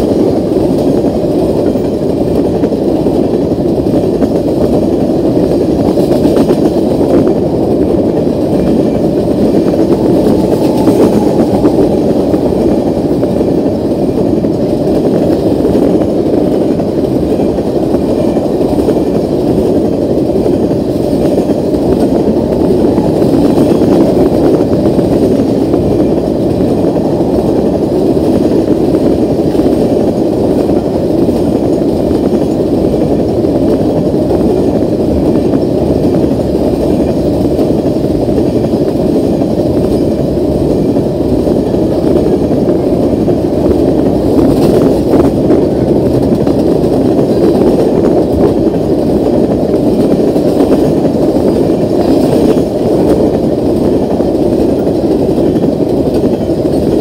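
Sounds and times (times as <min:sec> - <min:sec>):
rumble of train wheels on rails: 0:00.0 - 0:57.0.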